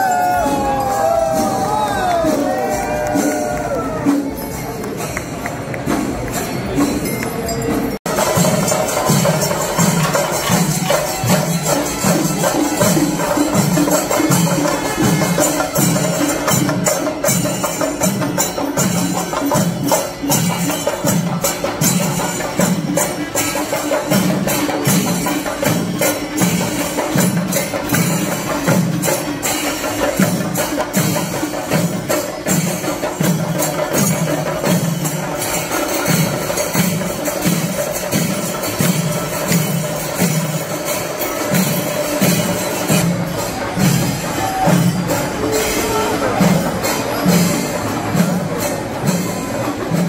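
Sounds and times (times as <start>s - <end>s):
jingling and clacking percussion: 0.0s - 50.0s.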